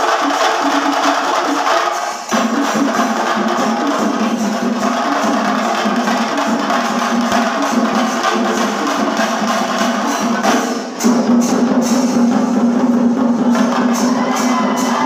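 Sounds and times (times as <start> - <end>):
ensemble of drums playing fast: 0.0 - 15.0.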